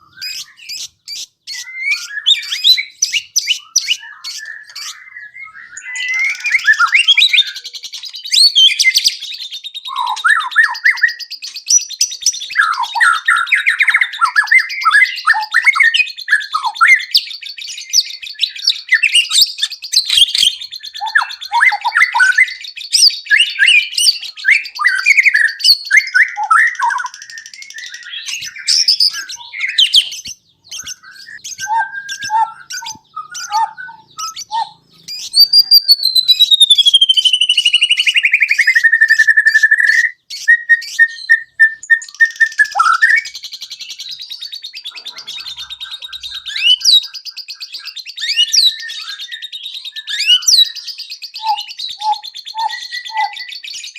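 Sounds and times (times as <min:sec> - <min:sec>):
bird singing loud whistles: 0:00.0 - 0:53.9.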